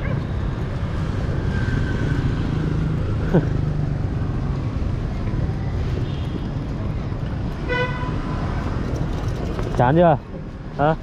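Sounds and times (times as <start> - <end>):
motorbikes: 0.0 - 11.0
street traffic rumble: 0.0 - 11.0.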